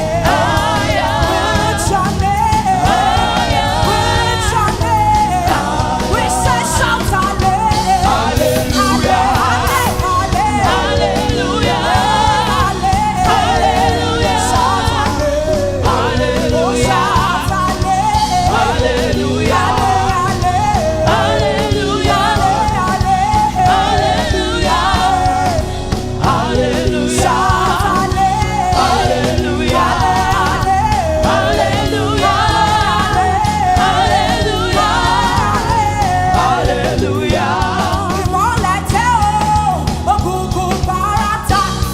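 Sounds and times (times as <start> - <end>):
band accompaniment: 0.0 - 41.9
voices singing gospel: 0.0 - 41.9.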